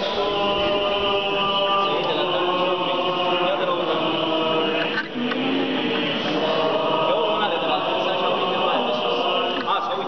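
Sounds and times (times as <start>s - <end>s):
choir chanting a hymn: 0.0s - 10.0s.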